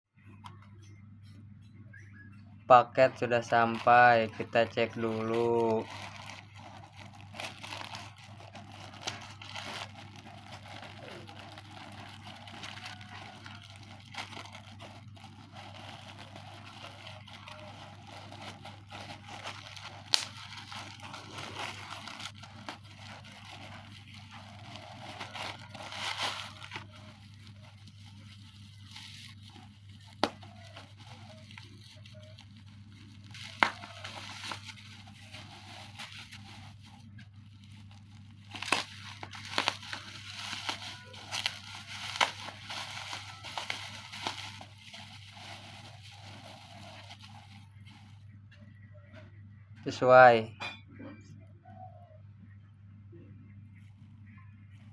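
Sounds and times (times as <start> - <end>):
packaging crinkling and rustling: 2.8 - 48.4
packaging tearing: 3.0 - 48.2.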